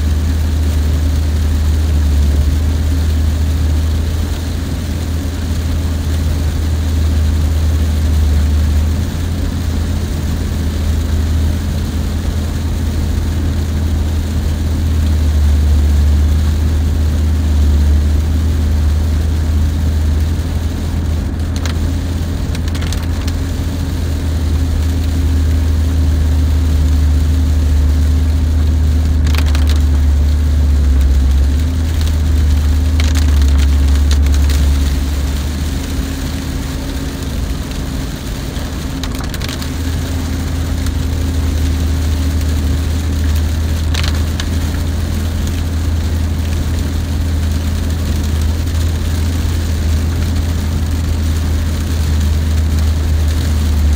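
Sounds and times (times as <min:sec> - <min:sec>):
car engine and tyres on wet road: 0:00.0 - 0:53.9.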